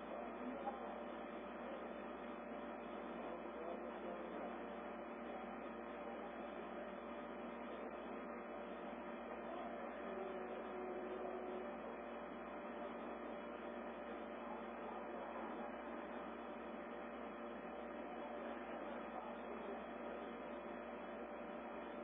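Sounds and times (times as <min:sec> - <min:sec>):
faint hum tones: 0:00.0 - 0:22.0.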